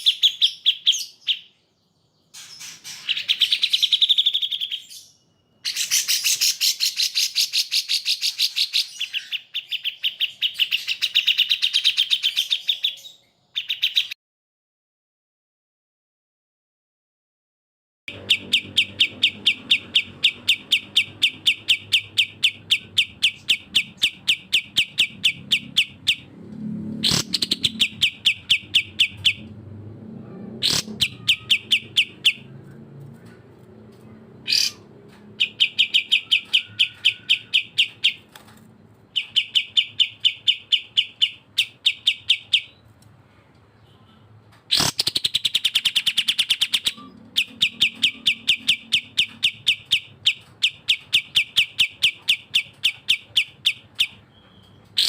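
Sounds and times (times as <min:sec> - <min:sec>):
bird chirping rapidly: 0:00.0 - 0:14.2, 0:18.1 - 0:26.4, 0:27.0 - 0:29.7, 0:30.6 - 0:33.6, 0:34.4 - 0:38.4, 0:39.0 - 0:42.9, 0:44.7 - 0:55.0.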